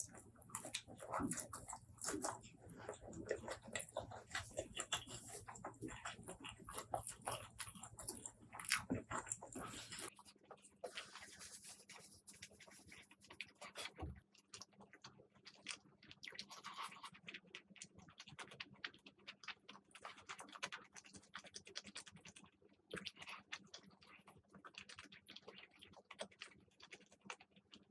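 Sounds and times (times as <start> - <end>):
mouth chewing food: 0.0 - 27.9.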